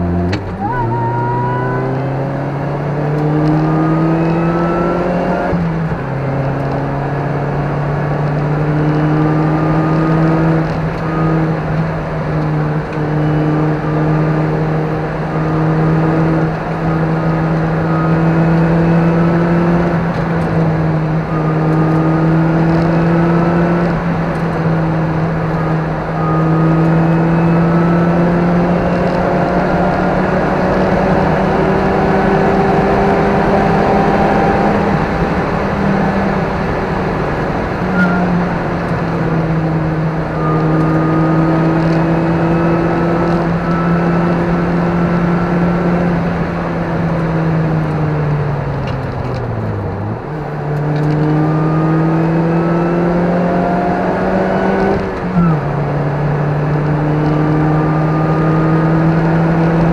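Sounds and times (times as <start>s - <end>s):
car engine pulling at speed: 0.0s - 59.9s.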